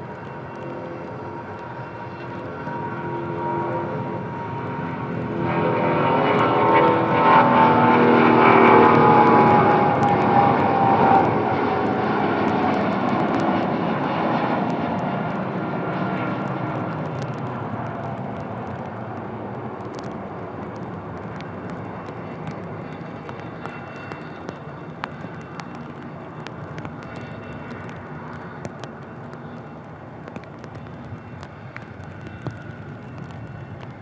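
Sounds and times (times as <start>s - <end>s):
jet airliner passing: 0.0s - 34.0s.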